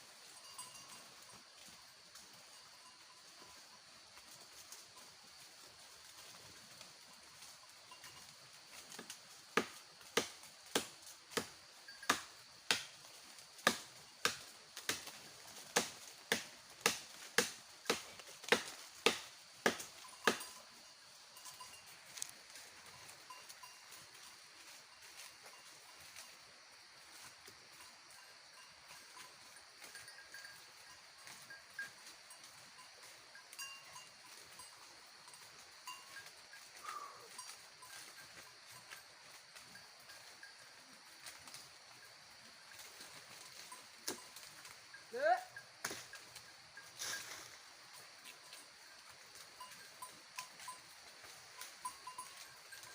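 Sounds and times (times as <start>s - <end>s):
goat bells tinkling: 0.0s - 52.9s.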